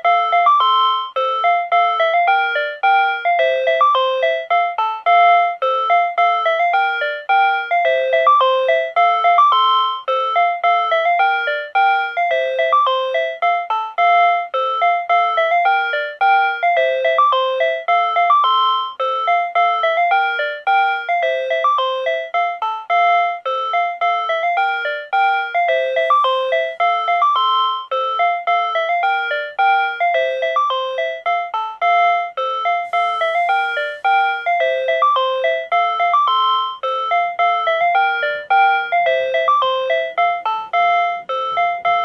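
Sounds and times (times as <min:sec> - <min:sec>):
electronic chime melody: 0:00.0 - 0:42.0.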